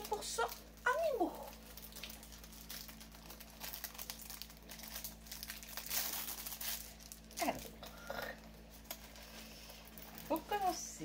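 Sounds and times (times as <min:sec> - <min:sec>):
plastic wrapping crinkling: 0:00.0 - 0:11.0
small crackles: 0:00.0 - 0:11.0.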